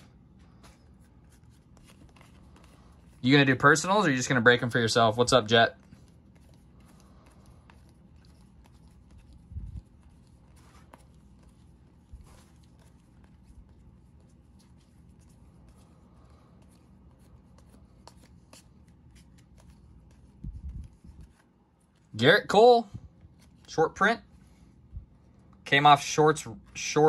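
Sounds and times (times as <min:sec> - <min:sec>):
trading cards rustling and clicking: 0:00.0 - 0:22.4, 0:23.1 - 0:27.0
faint steady hum: 0:00.0 - 0:27.0.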